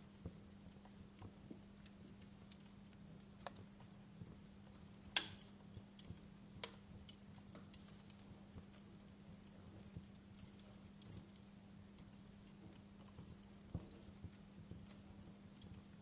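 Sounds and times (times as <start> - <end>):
steady low hum: 0.0 - 16.0
wood fire crackling and popping: 0.0 - 16.0.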